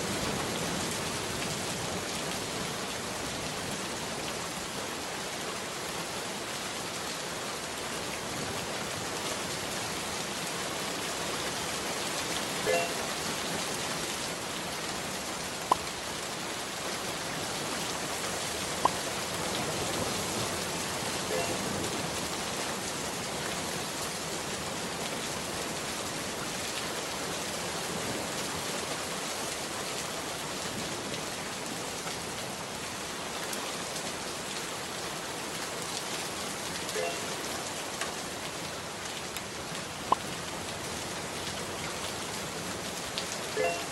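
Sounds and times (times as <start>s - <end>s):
steady rain-like hiss: 0.0s - 43.9s.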